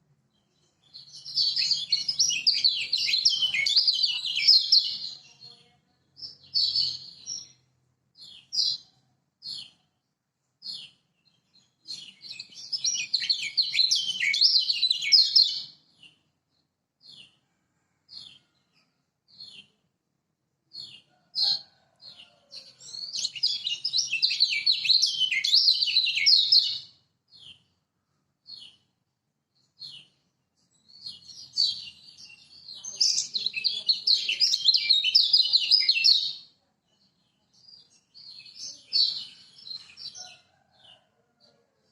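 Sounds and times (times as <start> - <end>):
bird chirping and twittering: 0.4 - 7.6, 8.2 - 9.8, 10.6 - 17.4, 20.7 - 27.7, 29.6 - 41.0.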